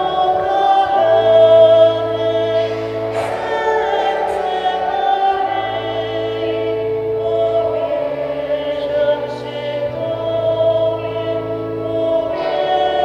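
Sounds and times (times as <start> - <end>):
choir singing long chords: 0.0 - 13.0.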